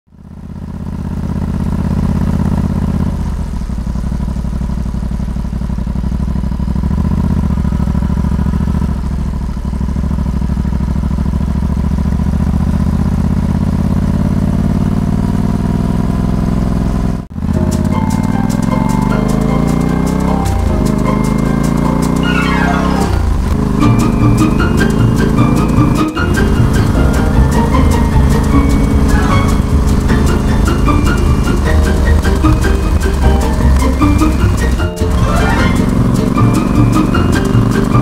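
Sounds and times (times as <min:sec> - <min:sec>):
motorcycle engine running: 0:00.1 - 0:38.0.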